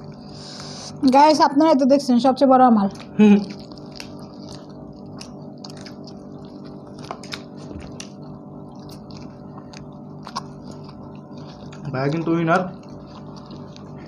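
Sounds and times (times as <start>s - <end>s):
people chewing: 0.0s - 1.4s, 2.8s - 14.0s
steady low hum: 0.0s - 14.0s.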